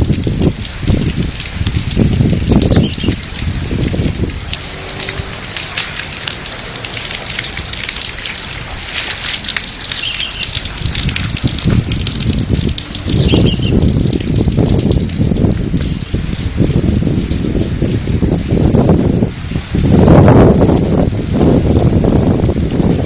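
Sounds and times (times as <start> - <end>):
hail and heavy rain pelting: 0.0 - 23.0
wind buffeting microphone: 0.0 - 23.0.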